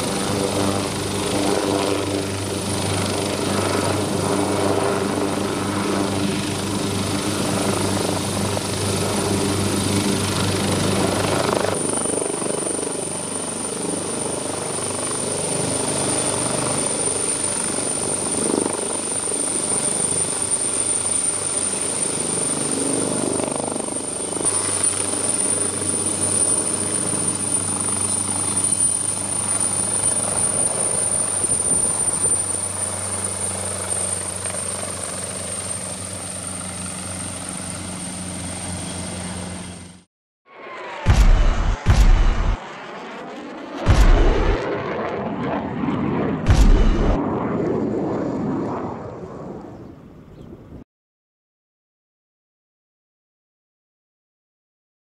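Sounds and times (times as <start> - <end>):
helicopter turbine whine and rotors: 0.0 - 50.8.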